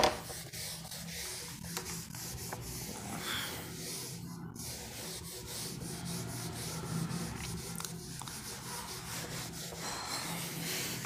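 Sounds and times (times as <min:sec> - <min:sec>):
rubbing and scratching strokes: 0:00.0 - 0:11.0.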